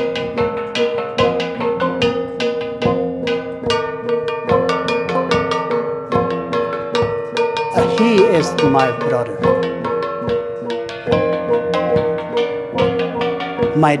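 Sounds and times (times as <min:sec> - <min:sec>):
bronze gongs struck in rhythm: 0:00.0 - 0:14.0.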